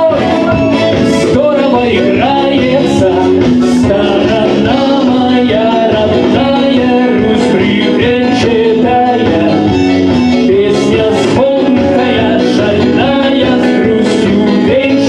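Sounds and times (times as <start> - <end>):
instrumental backing track: 0.0 - 15.0
man singing into a microphone: 0.0 - 15.0.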